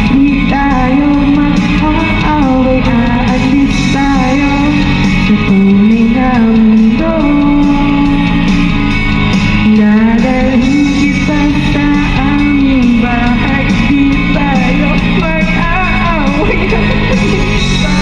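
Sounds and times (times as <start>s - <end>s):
guitar backing track: 0.0s - 18.0s
person singing: 0.0s - 18.0s.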